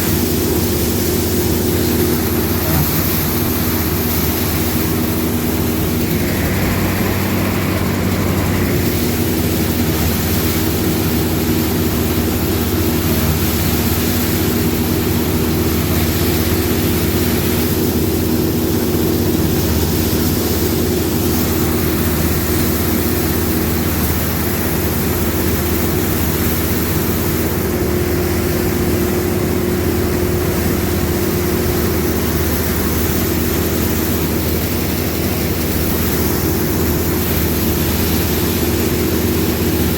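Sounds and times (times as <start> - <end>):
combine harvester engine drone: 0.0 - 39.9
threshing machinery hiss: 0.0 - 39.9.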